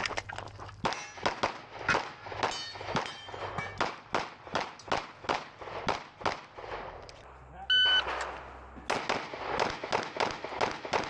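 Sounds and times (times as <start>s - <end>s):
pistol shots: 0.8s - 7.0s, 8.0s - 11.0s.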